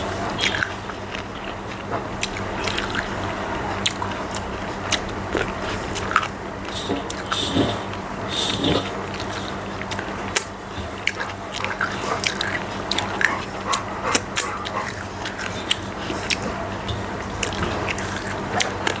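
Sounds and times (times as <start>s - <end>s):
chewing mouth sounds: 0.3s - 19.0s.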